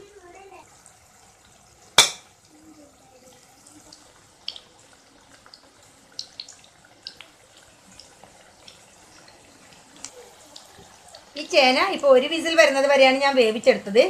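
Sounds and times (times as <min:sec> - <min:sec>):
food sizzling in hot oil: 0:00.0 - 0:14.0
frying hiss with pops: 0:00.0 - 0:14.0.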